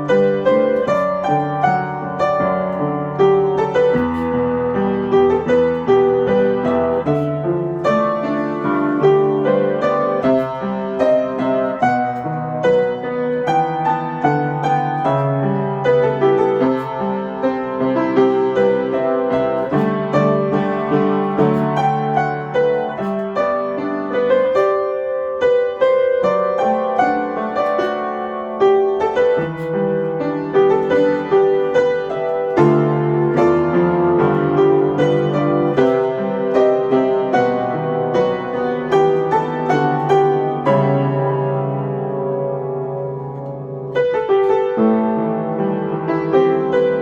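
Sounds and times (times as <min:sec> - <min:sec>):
solo piano melody: 0:00.0 - 0:47.0.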